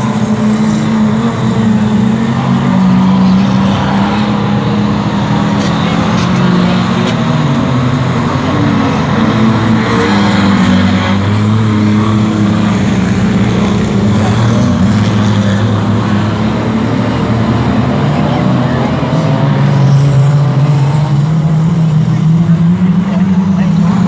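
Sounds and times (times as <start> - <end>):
racing car engines: 0.0 - 24.0.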